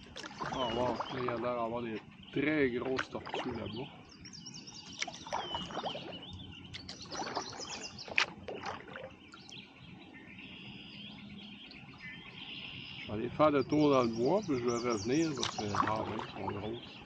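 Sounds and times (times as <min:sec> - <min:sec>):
kayak paddle in water: 0:00.0 - 0:11.1, 0:13.8 - 0:17.0
birds chirping and singing: 0:00.0 - 0:17.0.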